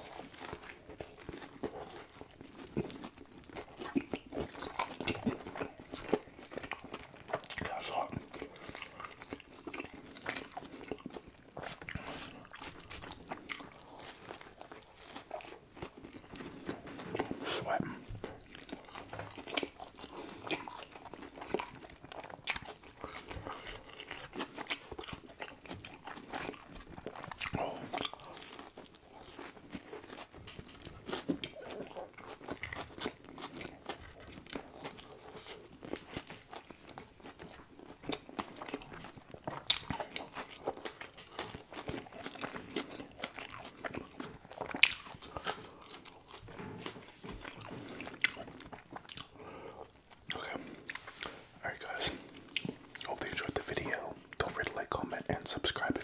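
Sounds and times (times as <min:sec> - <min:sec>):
crunchy chewing of fried food: 0:00.0 - 0:56.0.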